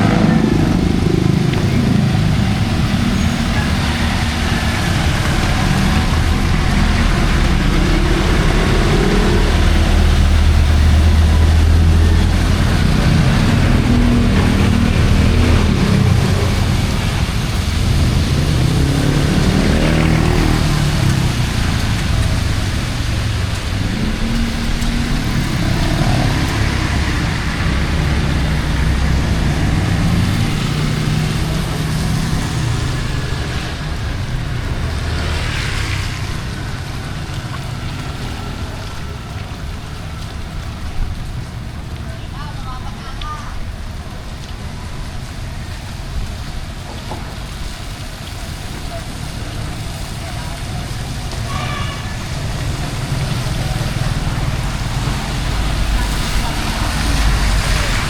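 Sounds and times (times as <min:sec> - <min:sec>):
steady road hiss: 0:00.0 - 0:58.0
vehicles passing by: 0:00.0 - 0:58.0.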